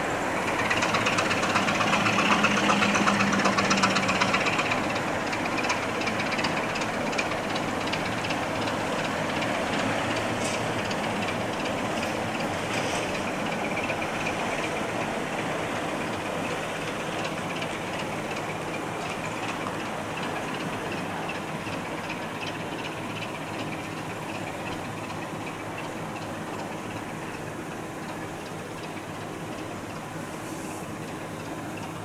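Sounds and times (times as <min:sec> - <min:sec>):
diesel locomotive engine: 0:00.0 - 0:32.0
wheels clicking over rail joints: 0:00.0 - 0:32.0.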